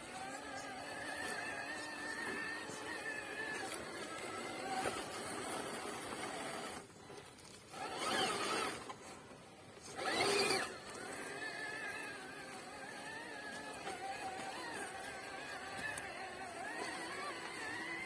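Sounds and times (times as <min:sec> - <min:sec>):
rc car electric motor whining: 0:00.0 - 0:09.1, 0:09.7 - 0:18.0.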